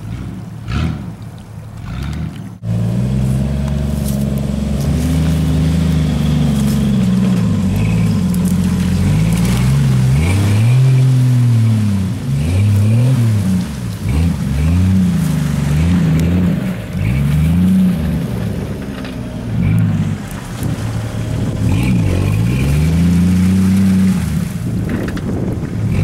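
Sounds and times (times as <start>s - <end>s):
engine revving: 0.0s - 1.2s, 1.8s - 25.2s, 25.8s - 26.0s.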